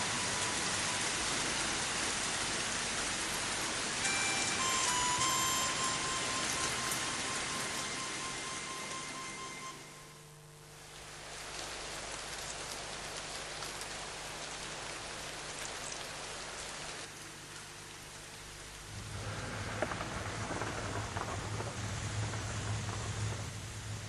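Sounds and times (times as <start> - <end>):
low steady hum: 0.0 - 24.0
rain on wet ground: 0.0 - 24.0.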